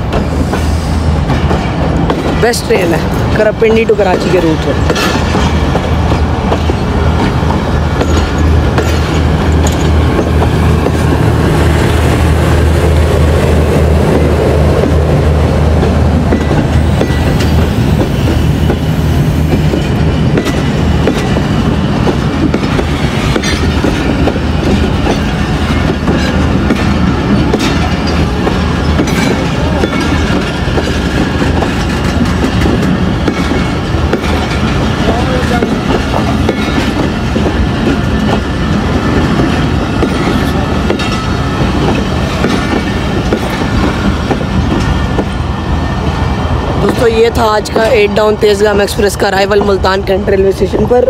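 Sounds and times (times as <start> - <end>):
train wheels rumbling and clacking: 0.0 - 51.0.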